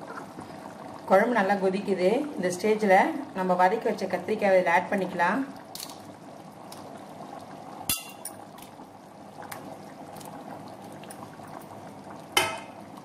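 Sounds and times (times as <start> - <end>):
gravy bubbling in a pot: 0.0 - 13.0.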